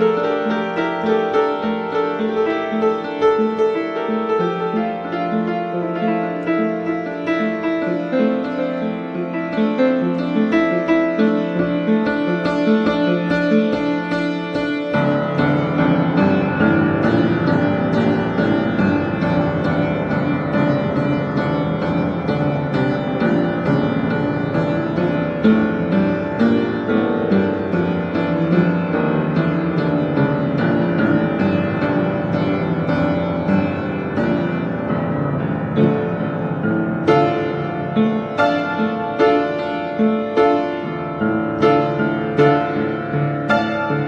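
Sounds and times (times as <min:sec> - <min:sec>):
upright piano chords: 0:00.0 - 0:44.0.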